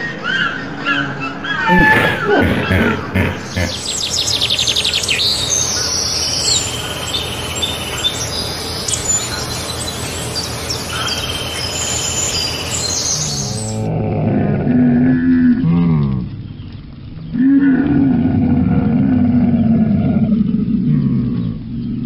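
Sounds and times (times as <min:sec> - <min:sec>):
songbirds chirping and singing: 0:00.0 - 0:13.9, 0:14.8 - 0:22.0.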